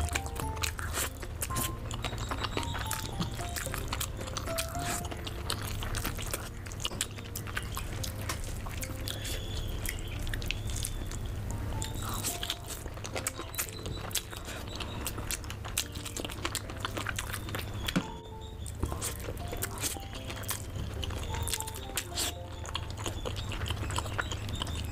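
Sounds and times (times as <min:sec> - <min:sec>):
person chewing noodles: 0:00.0 - 0:24.9.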